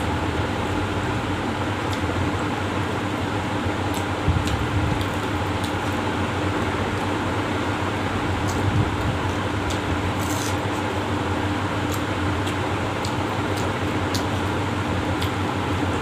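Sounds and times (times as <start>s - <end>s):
electric fan whirring: 0.0s - 16.0s.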